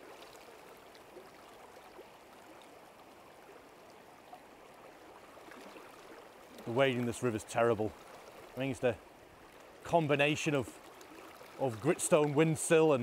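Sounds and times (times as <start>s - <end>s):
faint ticks and splashes: 0.0s - 13.0s
river water rushing: 0.0s - 13.0s.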